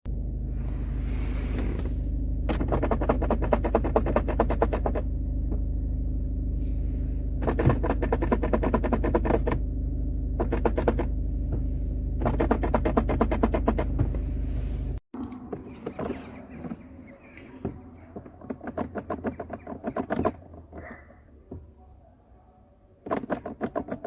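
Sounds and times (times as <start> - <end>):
car engine and road drone: 0.0 - 24.0.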